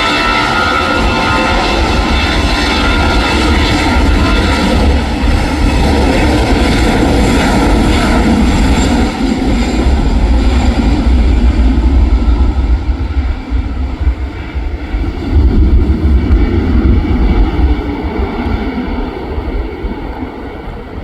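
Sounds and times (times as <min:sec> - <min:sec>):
jet engines passing: 0:00.0 - 0:21.0
wind rumbling on microphone: 0:00.0 - 0:21.0.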